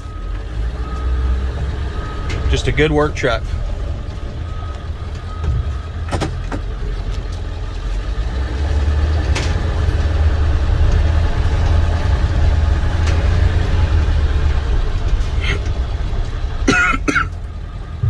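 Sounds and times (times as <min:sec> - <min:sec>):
diesel engine rumble in cab: 0:00.0 - 0:18.0.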